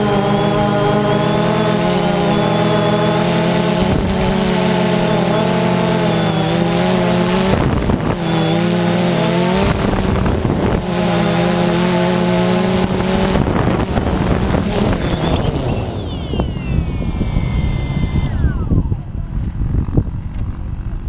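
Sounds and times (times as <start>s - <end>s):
dirt bike engine running: 0.0s - 21.0s
wind noise on microphone: 0.0s - 21.0s.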